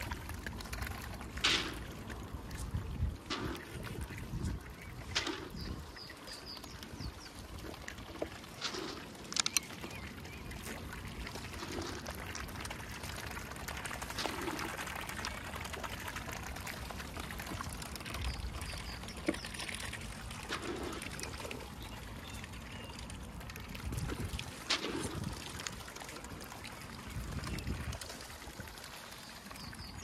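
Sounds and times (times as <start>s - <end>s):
water splashing and trickling: 0.0s - 30.0s.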